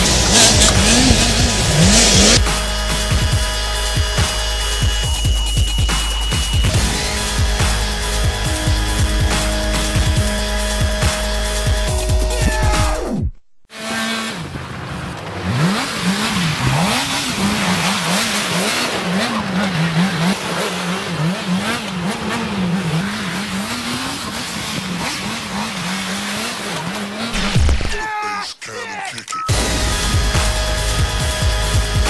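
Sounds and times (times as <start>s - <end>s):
motorcycle engine revving: 0.0s - 27.8s, 29.5s - 32.0s.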